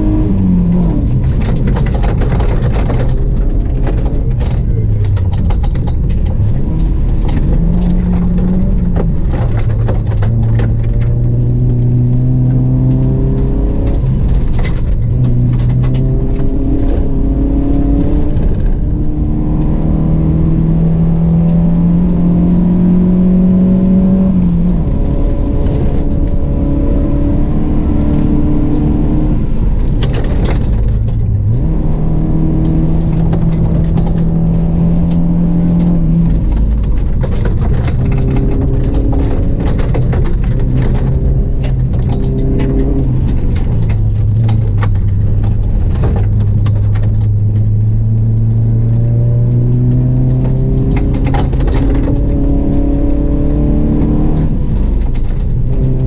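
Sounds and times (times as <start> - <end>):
gravel striking car: 0.0 - 56.0
rally car engine revving: 0.0 - 56.0.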